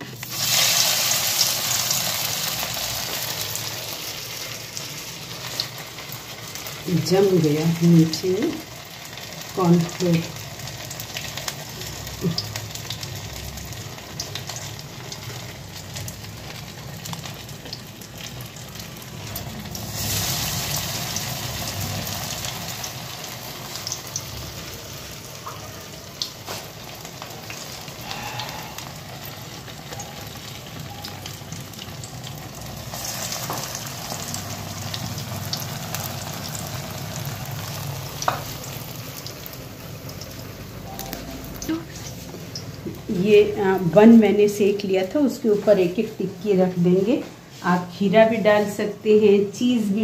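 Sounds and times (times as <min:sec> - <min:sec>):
food deep-frying in hot oil: 0:00.0 - 0:50.0.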